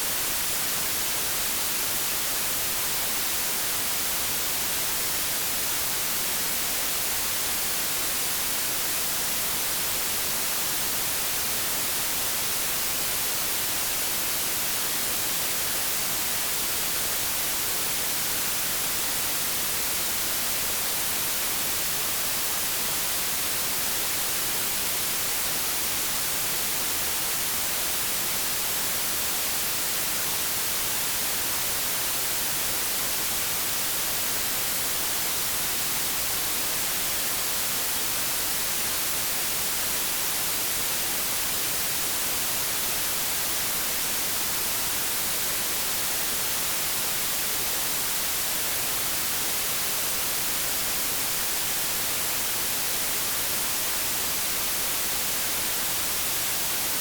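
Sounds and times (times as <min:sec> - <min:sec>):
white-noise static hiss: 0:00.0 - 0:57.0.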